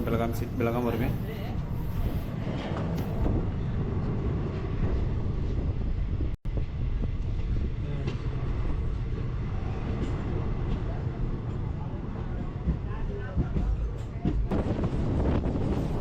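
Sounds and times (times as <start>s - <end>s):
train wheels rumbling on track: 0.0s - 16.0s
wind buffeting microphone: 1.1s - 16.0s.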